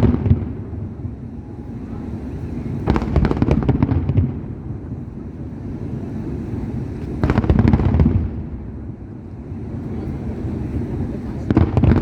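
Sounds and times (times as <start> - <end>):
fireworks bangs: 0.0 - 9.0, 9.6 - 12.0
low background rumble: 0.0 - 12.0.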